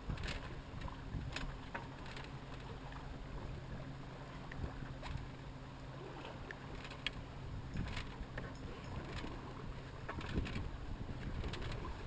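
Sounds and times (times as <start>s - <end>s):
water splashing along hull: 0.0s - 12.0s.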